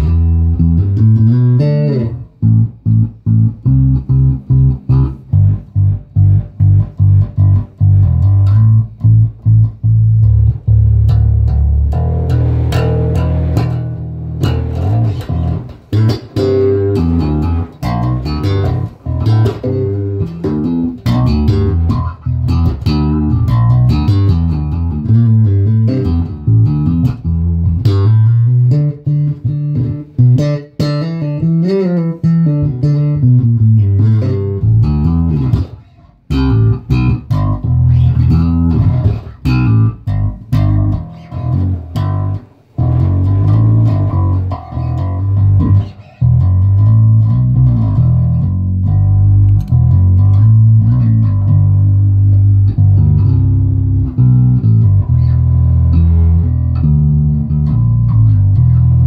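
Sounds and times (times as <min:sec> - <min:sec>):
fingerstyle electric bass guitar: 0:00.0 - 0:59.0.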